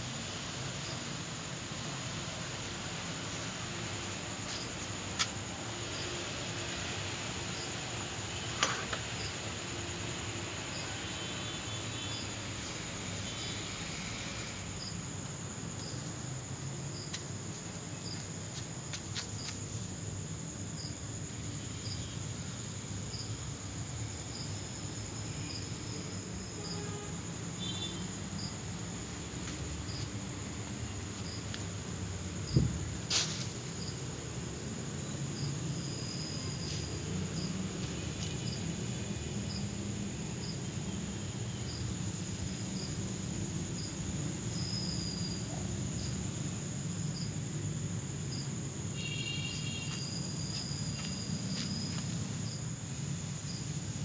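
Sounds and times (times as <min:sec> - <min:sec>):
crickets trilling: 0:00.0 - 0:54.0
short cricket chirp: 0:02.5 - 0:54.0.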